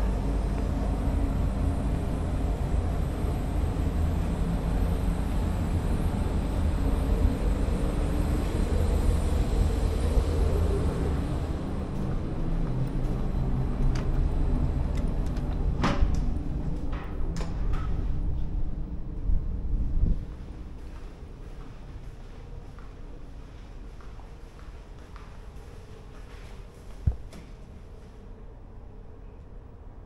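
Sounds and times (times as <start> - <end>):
low rumble on ship deck: 0.0 - 30.0.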